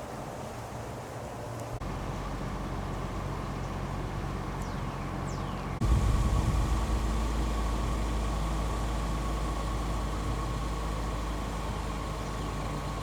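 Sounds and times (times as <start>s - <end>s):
car engine idling: 1.5s - 13.0s.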